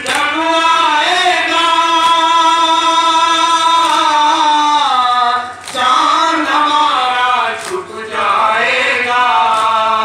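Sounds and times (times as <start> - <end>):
men chanting a lament: 0.0 - 10.0.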